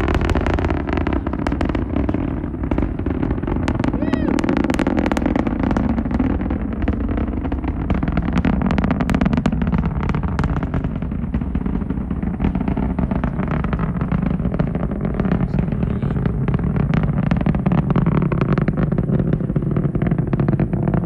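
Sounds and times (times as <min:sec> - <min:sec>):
rocket engines rumbling and crackling: 0:00.0 - 0:21.0.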